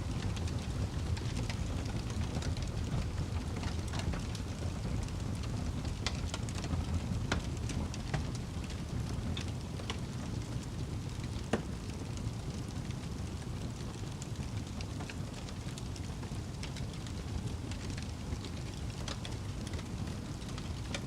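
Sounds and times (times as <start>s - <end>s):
fire crackling and popping: 0.0s - 21.0s
low rumble of fire flames: 0.0s - 21.0s.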